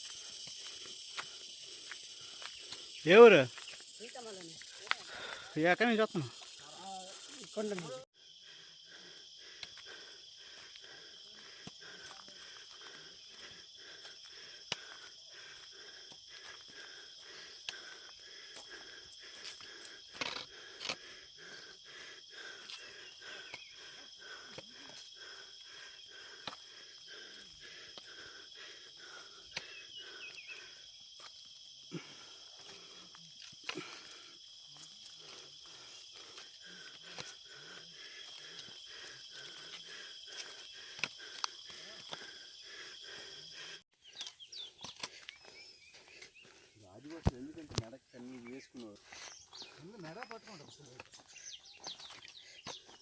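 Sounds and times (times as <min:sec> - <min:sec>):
insects shrilling: 0:00.0 - 0:47.6.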